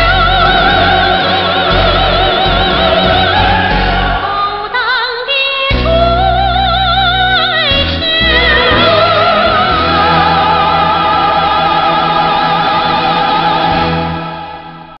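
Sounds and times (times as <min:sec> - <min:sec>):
orchestral accompaniment: 0:00.0 - 0:05.0, 0:07.8 - 0:15.0
woman singing with vibrato: 0:00.0 - 0:14.4.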